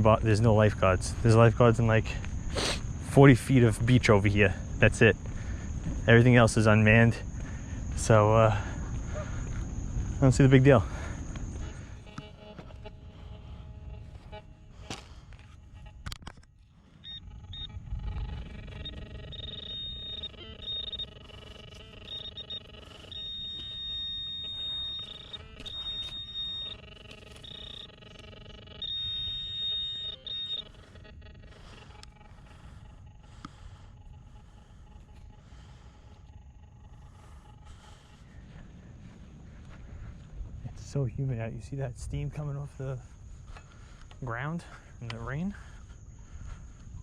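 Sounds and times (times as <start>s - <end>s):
high electronic alarm tones: 0.0s - 40.3s
faint steady tone: 0.0s - 47.0s.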